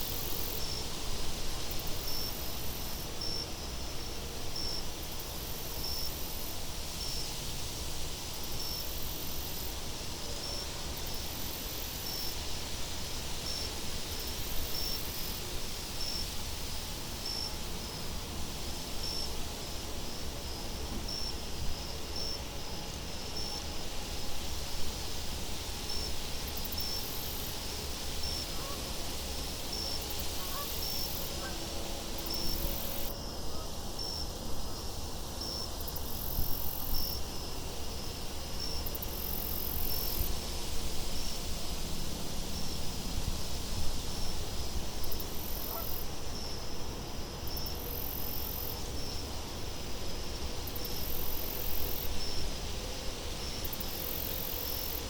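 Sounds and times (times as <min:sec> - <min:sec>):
buzzy insect trills: 0:00.0 - 0:18.2, 0:25.9 - 0:55.0
crickets chirping: 0:00.0 - 0:55.0.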